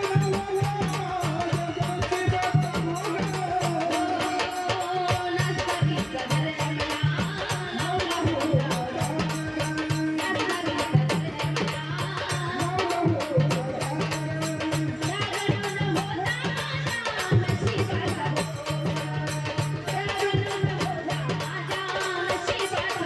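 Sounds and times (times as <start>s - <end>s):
folk devotional song: 0.0s - 23.0s
repeating percussion beat: 0.0s - 23.0s.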